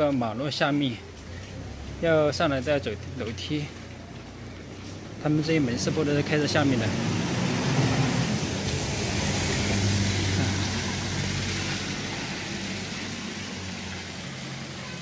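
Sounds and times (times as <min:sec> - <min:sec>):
road noise: 0:00.0 - 0:15.0
vehicle engine hum: 0:01.0 - 0:15.0.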